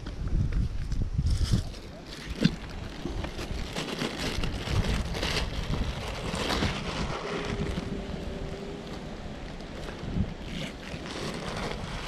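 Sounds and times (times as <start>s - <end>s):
wind buffeting microphone: 0.0s - 12.0s
plastic bag rustling: 1.3s - 12.0s.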